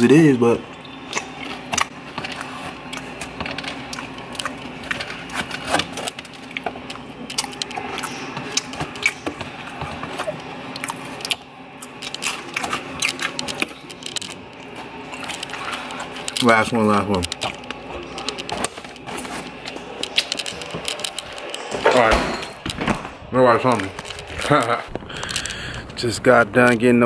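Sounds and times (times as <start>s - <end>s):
food handling clicks and rustles: 0.0s - 27.0s
refrigerator hum: 0.0s - 27.0s
person chewing: 0.7s - 21.8s, 23.8s - 26.0s.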